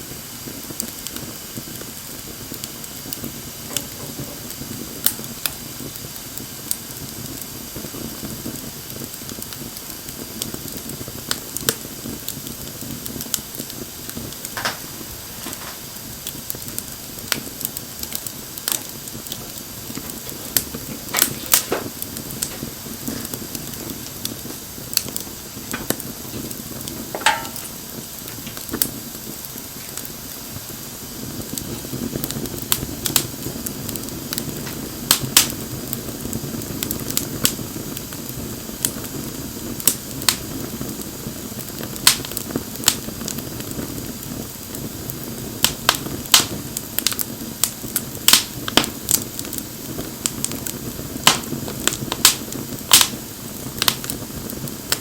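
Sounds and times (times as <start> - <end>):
bonfire flame rushing: 0.0 - 55.0
burning wood crackling and popping: 0.0 - 55.0.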